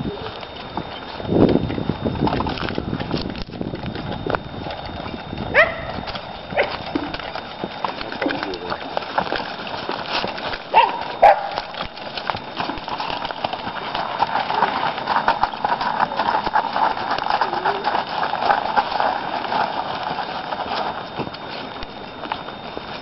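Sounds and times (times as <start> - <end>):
cart rolling: 0.0 - 23.0
hooves clip-clopping on gravel: 0.0 - 23.0.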